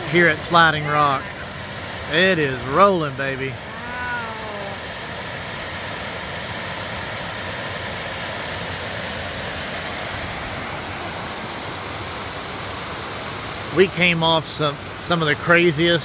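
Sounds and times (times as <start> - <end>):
waterfall rushing over rock: 0.0 - 16.0.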